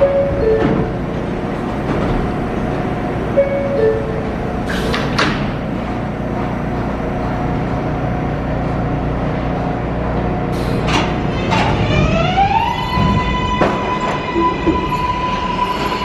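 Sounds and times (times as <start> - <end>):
subway train mechanical hum: 0.0 - 16.0.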